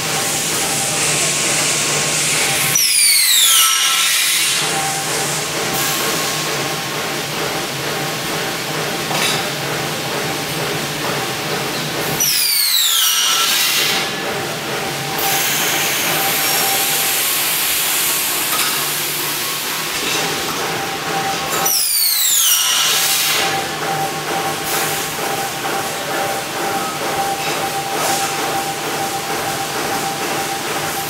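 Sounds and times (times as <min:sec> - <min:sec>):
machine hum and hiss: 0:00.0 - 0:31.0.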